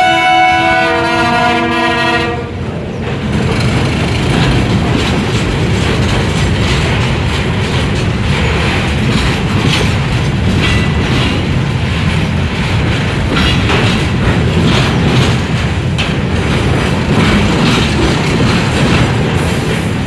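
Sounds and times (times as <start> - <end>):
freight cars rumbling on rail: 0.0 - 20.0
wheels clacking over rail joints: 2.2 - 20.0.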